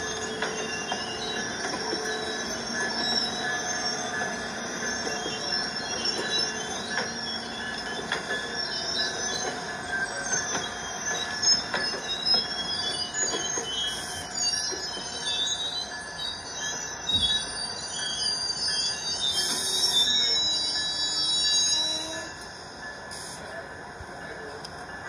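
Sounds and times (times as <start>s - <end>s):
train rolling rumble: 0.0s - 25.0s
train wheels squealing: 0.0s - 25.0s.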